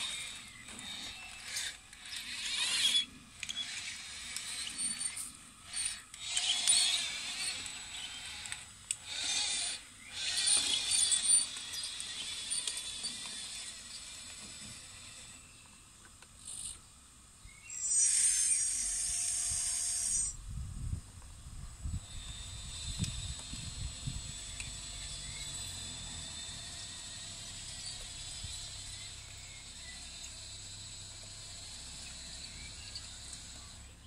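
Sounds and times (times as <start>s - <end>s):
toy motors and gears whining: 0.0s - 34.0s.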